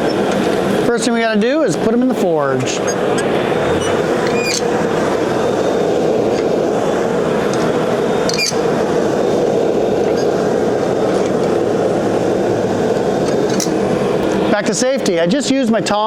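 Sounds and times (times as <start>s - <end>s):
forge rushing noise: 0.0s - 16.0s.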